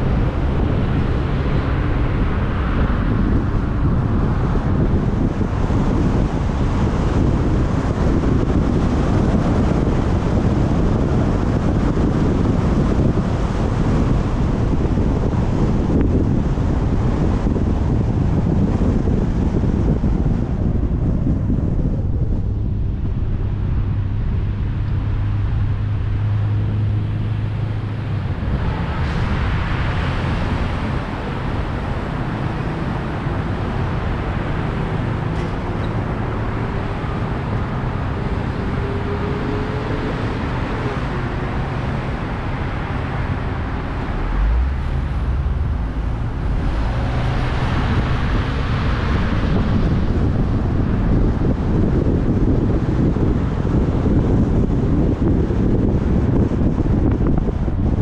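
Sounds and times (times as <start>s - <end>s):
road and engine rumble: 0.0s - 58.0s
wind rushing over microphone: 0.0s - 58.0s.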